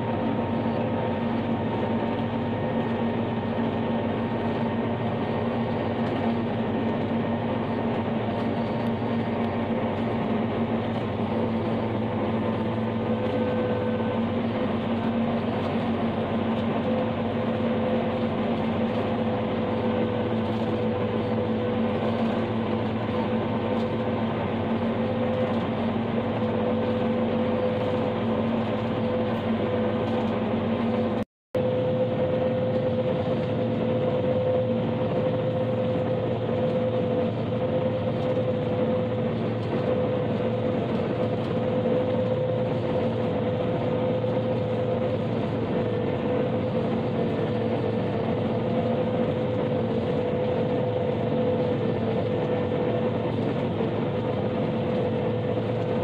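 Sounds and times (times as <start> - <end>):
forage harvester engine droning: 0.0 - 56.0.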